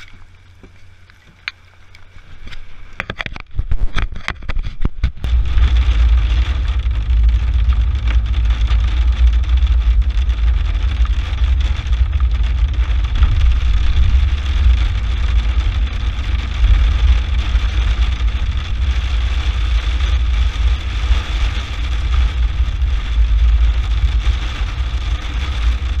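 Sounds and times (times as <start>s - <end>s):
car engine and road noise: 0.0s - 26.0s
rain hissing on windshield: 0.0s - 26.0s.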